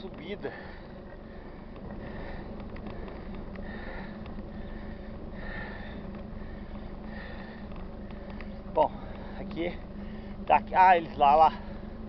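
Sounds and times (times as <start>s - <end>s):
steady low rumble: 0.0s - 12.0s
person breathing hard: 0.4s - 10.4s.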